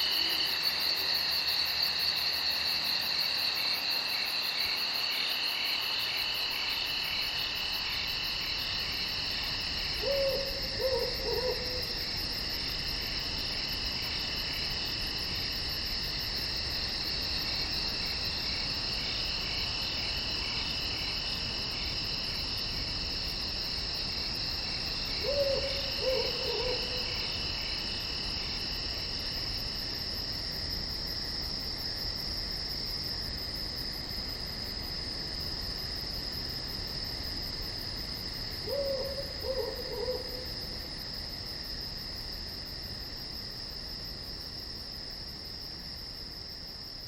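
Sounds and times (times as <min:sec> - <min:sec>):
crickets chirring: 0:00.0 - 0:47.0.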